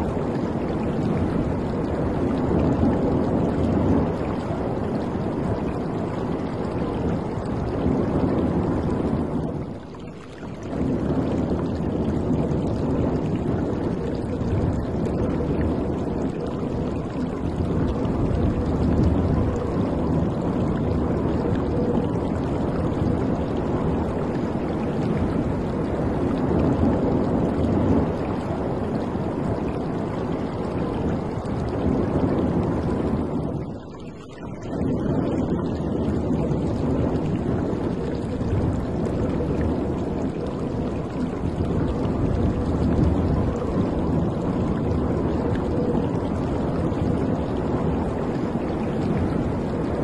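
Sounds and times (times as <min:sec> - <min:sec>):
wind on microphone: 0:00.0 - 0:50.0.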